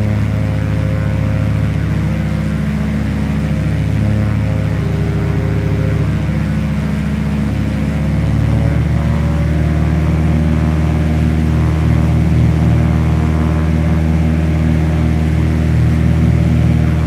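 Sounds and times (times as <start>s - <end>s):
twin aircraft engines droning: 0.0s - 17.0s.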